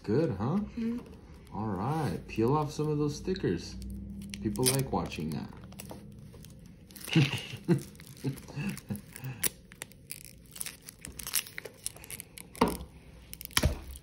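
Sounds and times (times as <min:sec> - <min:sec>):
plastic film crinkling: 0:00.6 - 0:14.0.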